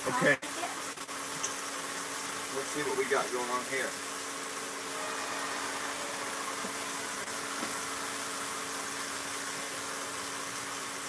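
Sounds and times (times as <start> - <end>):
kitchen fan running: 0.0 - 11.0.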